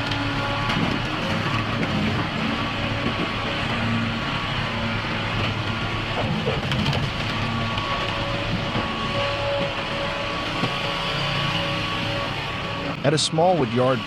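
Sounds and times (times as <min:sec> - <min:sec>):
log-splitting machine humming: 0:00.0 - 0:14.0
machinery clattering: 0:00.0 - 0:14.0.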